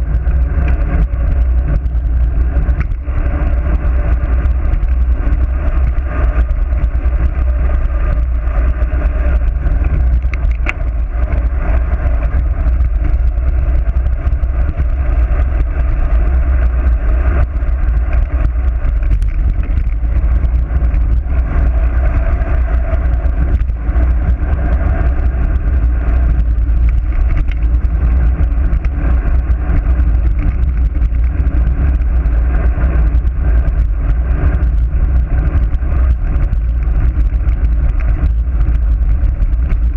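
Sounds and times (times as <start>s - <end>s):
road and tyre noise: 0.0s - 39.9s
wind rushing over camera: 0.0s - 39.9s.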